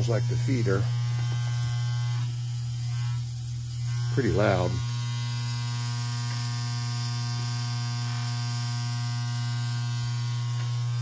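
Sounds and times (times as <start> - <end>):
water feeder electrical buzz: 0.0 - 11.0.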